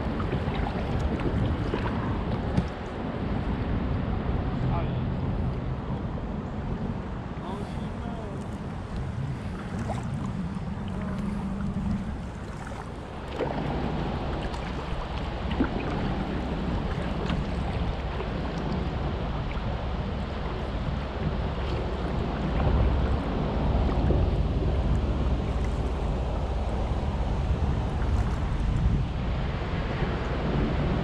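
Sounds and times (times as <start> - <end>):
paddle splashing in water: 0.0 - 3.0, 7.4 - 30.4
wind rumble on microphone: 0.0 - 31.0.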